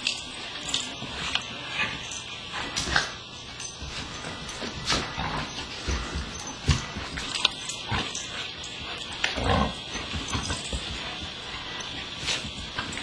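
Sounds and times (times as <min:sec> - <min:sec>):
dogs play-fighting: 0:00.0 - 0:13.0.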